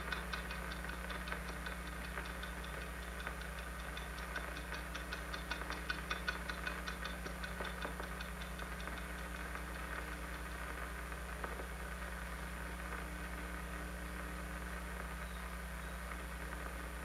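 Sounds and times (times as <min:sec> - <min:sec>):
rapid faint ticks: 0:00.0 - 0:15.1
film soundtrack hum and hiss: 0:00.0 - 0:17.0.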